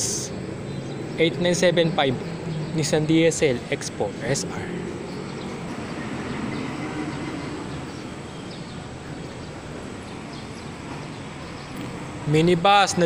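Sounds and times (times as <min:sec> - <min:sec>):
distant bus passing: 0:00.0 - 0:13.0.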